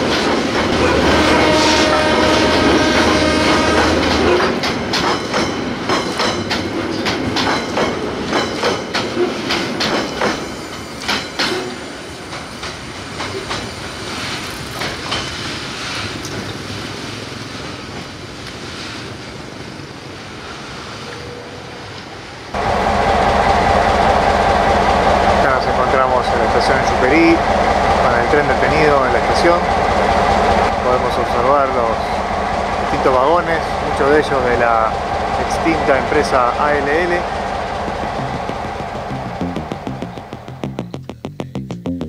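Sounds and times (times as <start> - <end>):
freight train wagons clattering: 0.0 - 19.0, 22.6 - 40.3
receding train rumble: 0.0 - 42.0.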